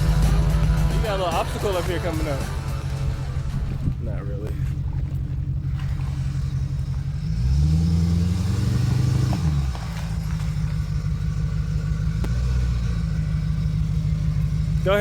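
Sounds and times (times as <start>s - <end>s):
engine pulling under throttle: 0.0s - 15.0s.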